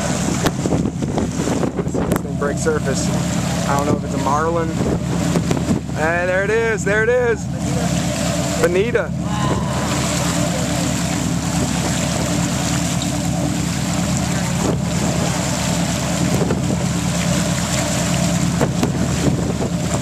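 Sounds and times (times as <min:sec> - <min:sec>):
boat engines droning: 0:00.0 - 0:20.0
rushing water: 0:00.0 - 0:20.0
wind on microphone: 0:00.0 - 0:20.0.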